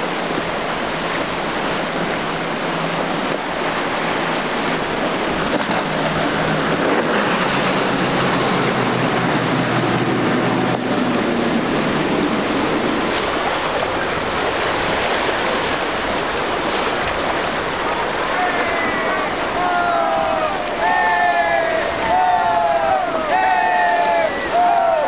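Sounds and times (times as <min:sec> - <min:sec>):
boat engine humming: 0:00.0 - 0:25.0
waves rushing: 0:00.0 - 0:25.0
wind: 0:00.0 - 0:25.0.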